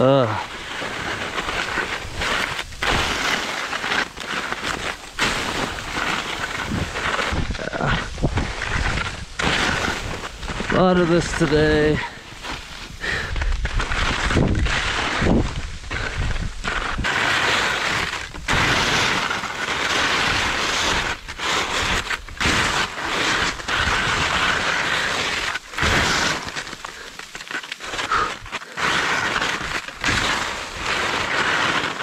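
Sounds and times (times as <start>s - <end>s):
skis scraping over crusted snow: 0.0s - 32.0s.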